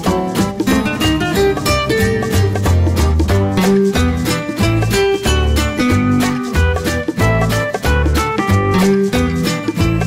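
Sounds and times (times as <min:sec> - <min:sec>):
upbeat plucked string music: 0:00.0 - 0:10.0.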